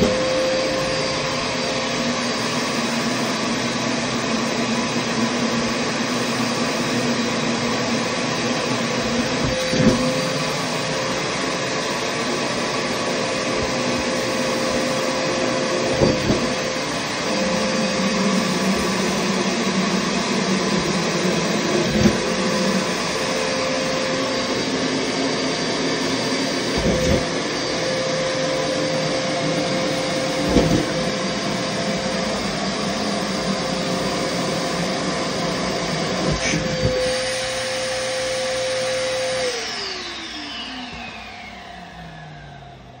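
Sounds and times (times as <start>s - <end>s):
vacuum cleaner running: 0.0s - 43.0s
vacuum motor winding down: 0.0s - 43.0s.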